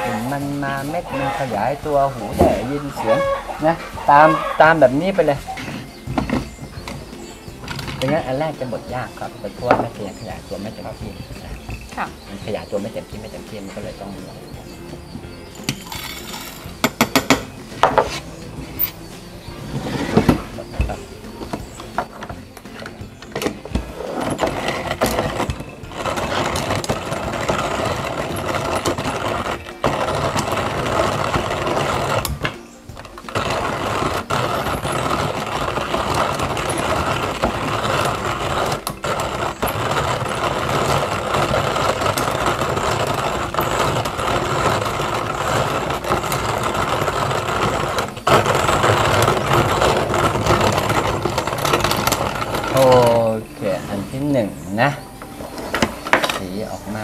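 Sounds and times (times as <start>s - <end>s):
coffee grinder grinding beans: 0.0s - 3.4s, 4.0s - 57.0s.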